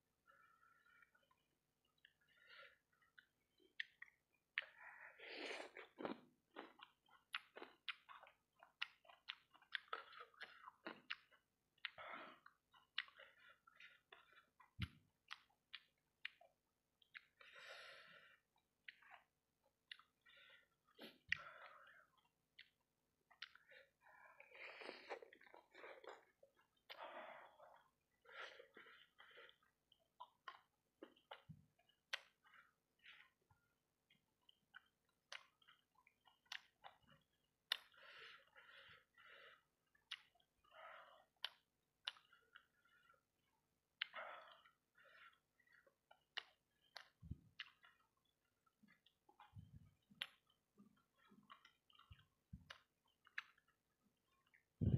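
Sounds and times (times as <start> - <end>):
wet chewing with mouth smacks: 1.0 - 17.5, 18.6 - 54.9.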